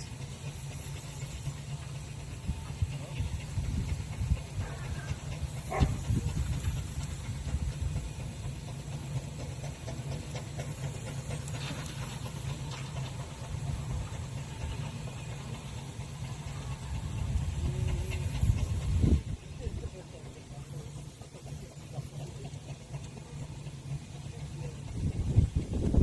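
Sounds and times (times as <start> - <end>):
steam engine running: 0.0 - 26.0
steam hissing: 0.0 - 26.0.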